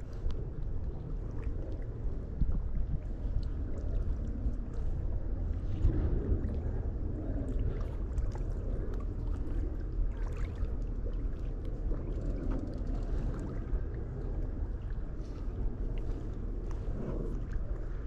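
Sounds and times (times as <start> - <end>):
small boat engine rumble: 0.0 - 18.0.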